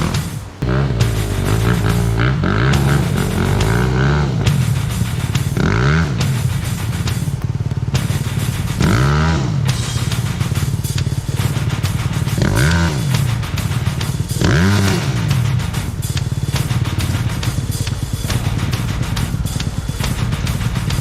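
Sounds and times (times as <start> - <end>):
dirt bike engine revving: 0.0 - 21.0
faint music: 0.0 - 21.0.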